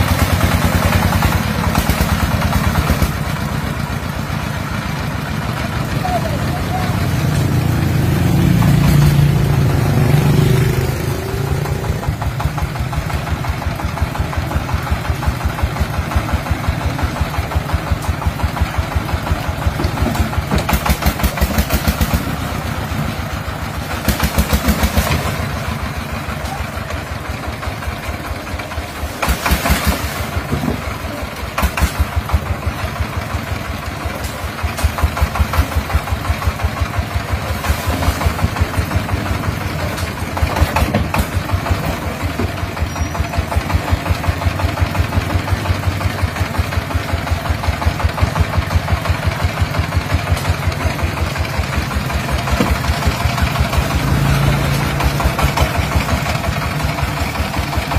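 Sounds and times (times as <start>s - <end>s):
diesel engine chugging: 0.0s - 57.9s.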